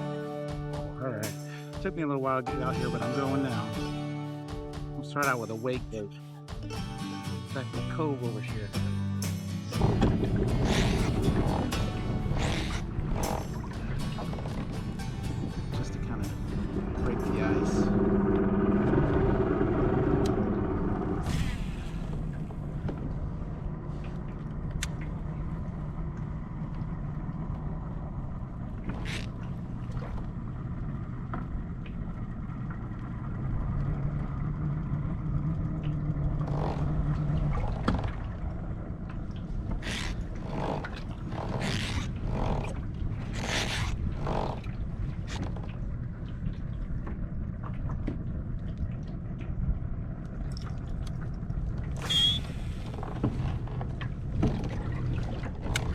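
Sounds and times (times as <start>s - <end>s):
low rumble of water on hull: 0.0s - 55.9s
scrapes and splashes: 7.6s - 55.9s.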